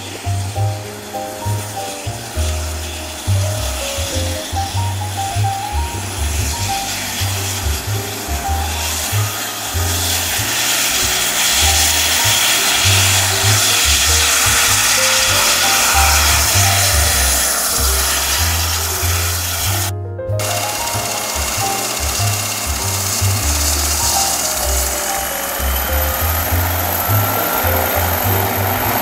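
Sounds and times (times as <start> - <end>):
background music with bass line: 0.0 - 29.0
helicopter rotor rushing: 4.1 - 29.0.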